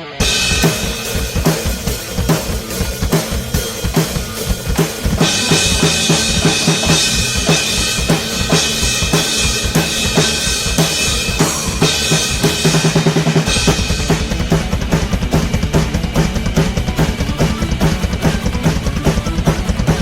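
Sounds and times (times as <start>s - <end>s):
drum kit played hard: 0.0s - 20.0s
metal backing track: 0.0s - 20.0s
rapid kick drum strokes: 0.2s - 20.0s.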